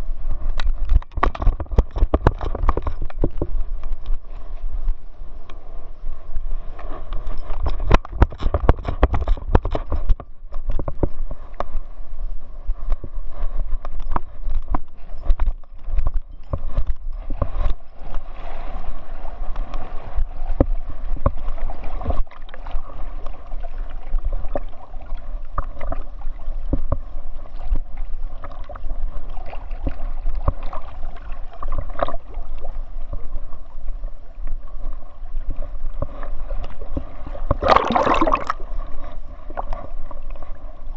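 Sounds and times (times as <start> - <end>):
water sloshing and gurgling: 0.0 - 40.9.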